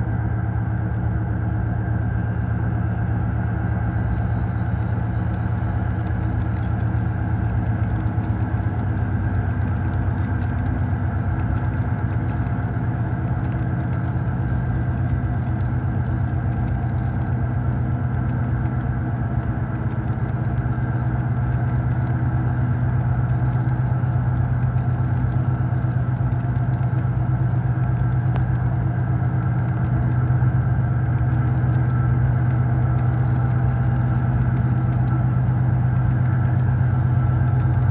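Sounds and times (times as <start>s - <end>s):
diesel locomotive engine drone: 0.0s - 37.9s.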